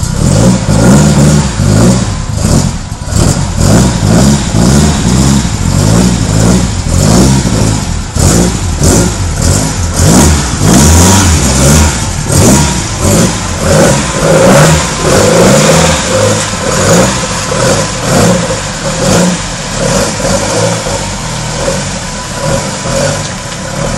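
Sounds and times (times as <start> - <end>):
car engine revving in throttle blips: 0.0 - 23.9.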